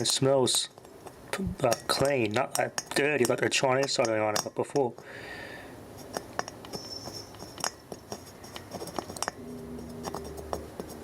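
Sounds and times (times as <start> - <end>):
small tools clicking and tapping: 0.0 - 5.2, 6.0 - 11.0
low steady hum: 0.7 - 11.0.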